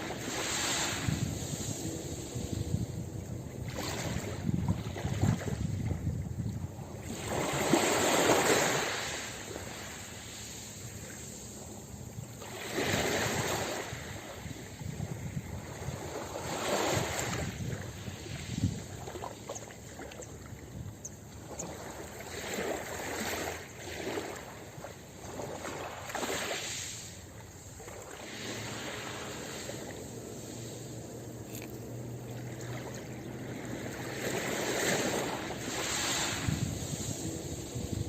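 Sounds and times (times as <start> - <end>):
ocean waves washing onto beach: 0.0 - 38.0.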